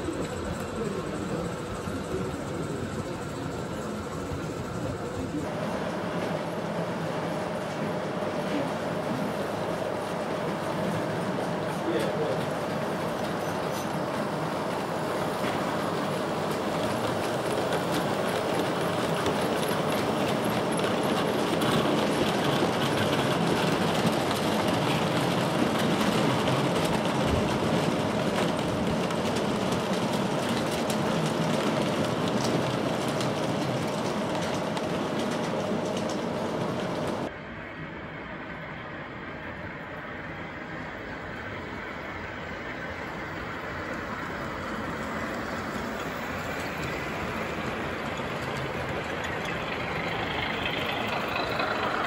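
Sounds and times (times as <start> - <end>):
model train rolling rumble: 0.0 - 52.0.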